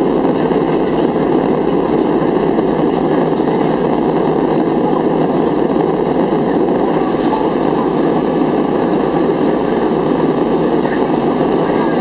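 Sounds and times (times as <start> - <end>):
jet engine cabin noise: 0.0 - 12.0.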